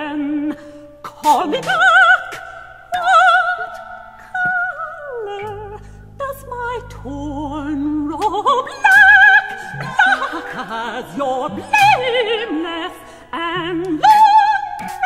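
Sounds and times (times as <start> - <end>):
soprano singing with vibrato: 0.0 - 15.0.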